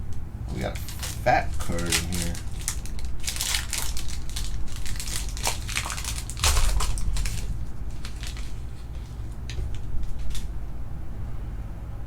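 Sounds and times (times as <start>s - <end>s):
foil wrapper crinkling: 0.5s - 10.6s.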